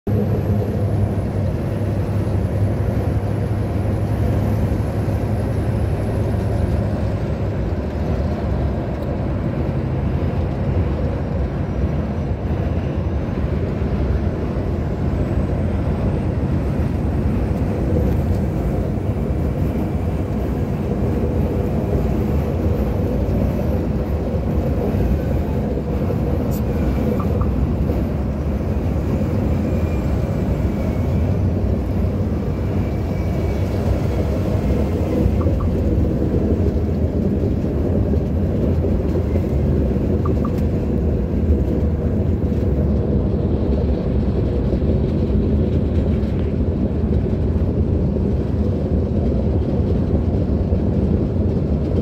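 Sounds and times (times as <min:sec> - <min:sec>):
truck engine and road drone: 0:00.0 - 0:52.0.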